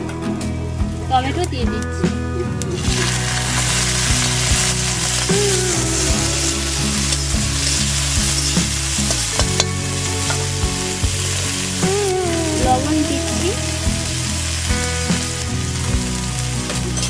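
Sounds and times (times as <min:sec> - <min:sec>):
tomatoes sizzling in hot oil: 0:00.6 - 0:17.0.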